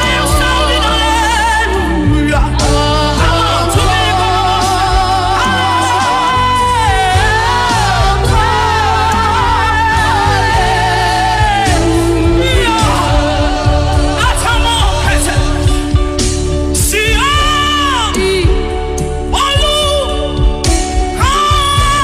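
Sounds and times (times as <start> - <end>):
bass: 0.0 - 22.0
person singing gospel: 0.0 - 22.0.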